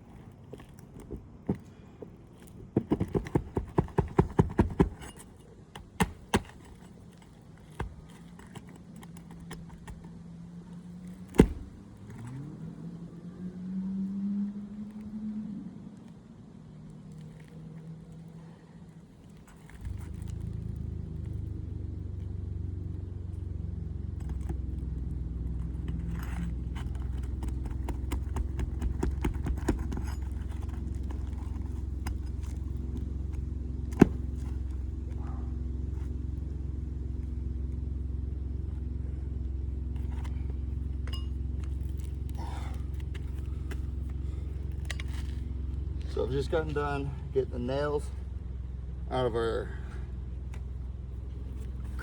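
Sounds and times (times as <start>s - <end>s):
low engine-like drone: 9.0s - 27.8s, 28.6s - 52.0s.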